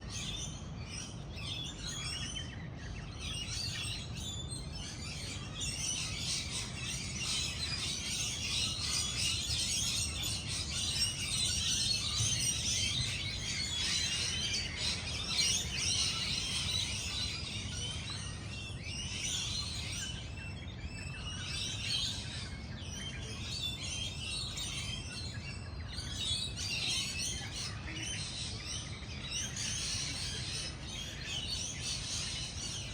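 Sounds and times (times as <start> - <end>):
many birds chirping: 0.0 - 32.9.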